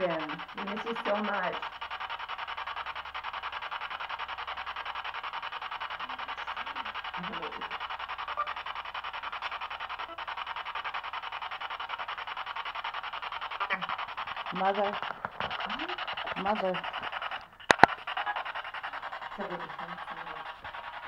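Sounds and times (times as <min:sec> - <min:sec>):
pulsing chopped radio static: 0:00.0 - 0:21.0.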